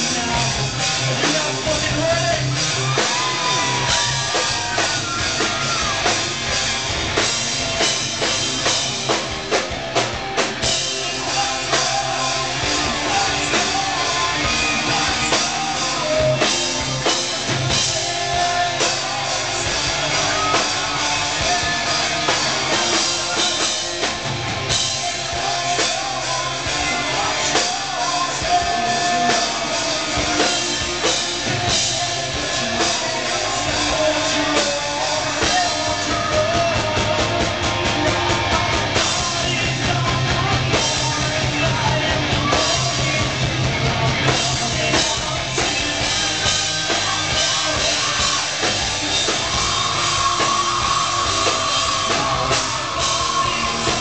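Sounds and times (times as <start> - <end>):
person singing: 0.0 - 6.5, 10.6 - 54.0
drum kit: 0.0 - 54.0
electric guitars: 0.0 - 54.0.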